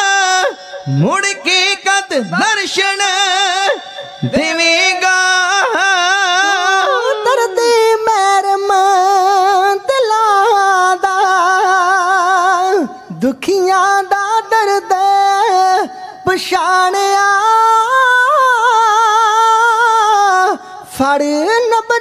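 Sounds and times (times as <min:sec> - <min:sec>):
men singing with vibrato: 0:00.0 - 0:22.0.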